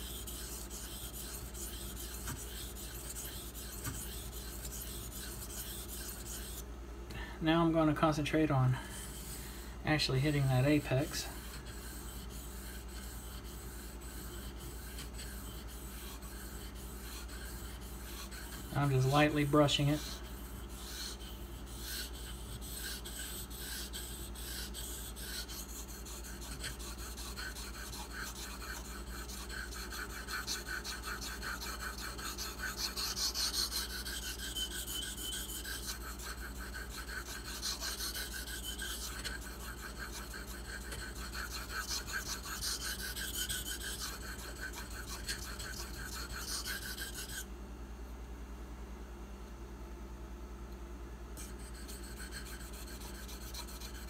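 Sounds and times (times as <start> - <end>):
knife blade scraping on whetstone: 0.0 - 6.6, 10.0 - 47.5, 51.4 - 54.0.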